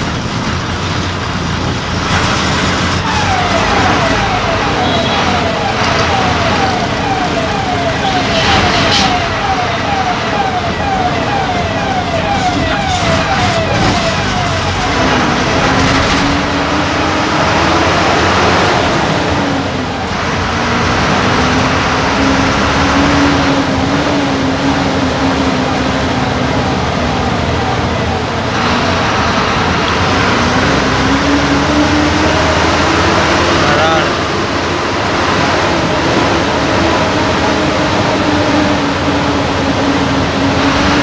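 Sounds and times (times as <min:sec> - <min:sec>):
bus diesel engine drone: 0:00.0 - 0:41.0
siren-like warble: 0:03.0 - 0:41.0.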